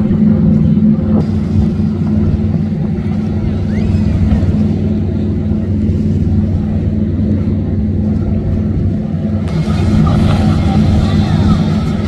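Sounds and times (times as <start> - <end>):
outboard motor running at speed: 0.0 - 12.0.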